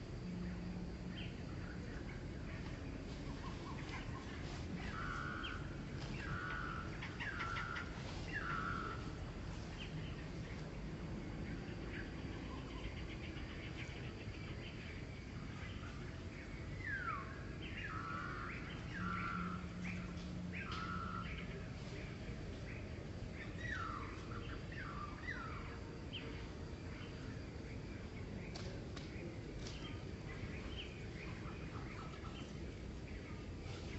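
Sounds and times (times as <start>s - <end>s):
steady background noise: 0.0s - 33.9s.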